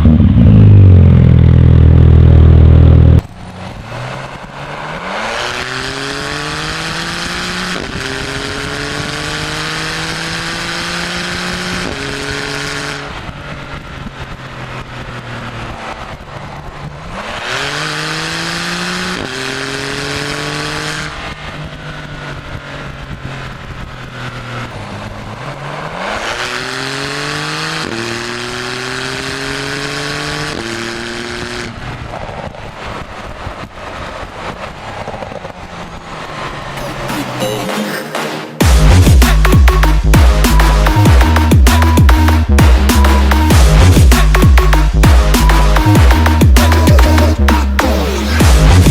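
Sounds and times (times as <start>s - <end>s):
sports car engine revving: 0.0s - 37.2s, 38.6s - 48.9s.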